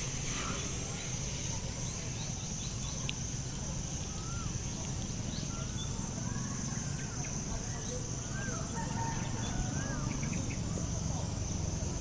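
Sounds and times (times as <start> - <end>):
small birds chirping: 0.0 - 12.0
steady high-pitched hum: 0.0 - 12.0.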